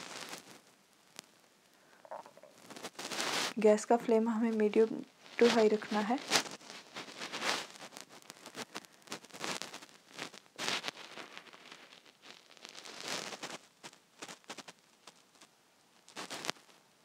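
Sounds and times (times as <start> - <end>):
oil sizzling and crackling: 0.0 - 16.8.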